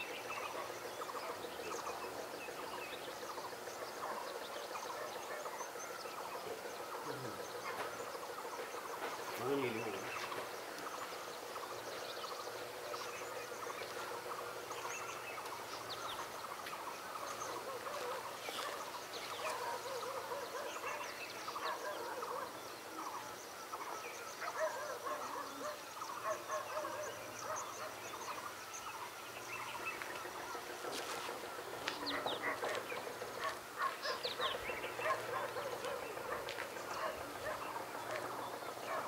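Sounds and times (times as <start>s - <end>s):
chorus of bird calls: 0.0s - 39.0s.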